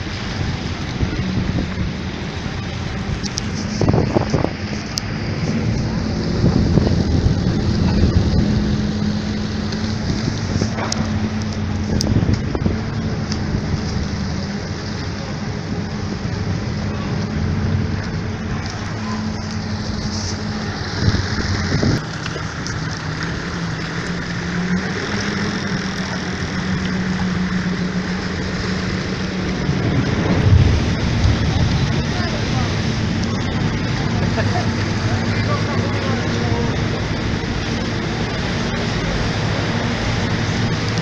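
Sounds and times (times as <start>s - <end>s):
motorboat engine running: 0.0s - 41.0s
water rushing: 0.0s - 41.0s
wind: 0.0s - 41.0s.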